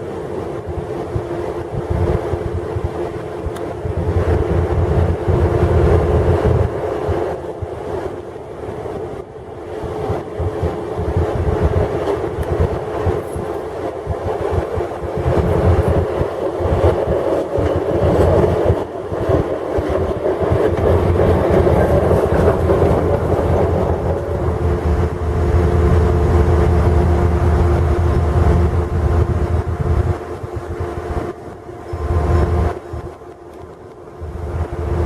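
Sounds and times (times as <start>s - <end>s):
diesel locomotive engine rumble: 0.0s - 35.0s
wheels on rails: 0.0s - 35.0s.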